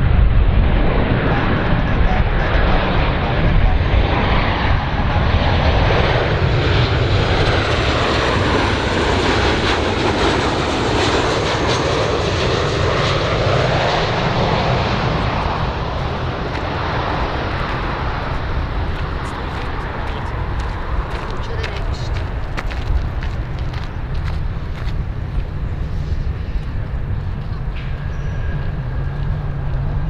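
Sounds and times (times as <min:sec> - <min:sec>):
airplane engines running: 0:00.0 - 0:30.0.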